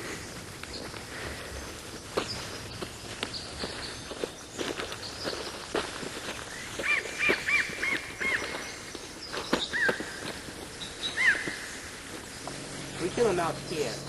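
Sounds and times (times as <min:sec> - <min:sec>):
bird chirping: 0:02.0 - 0:14.0.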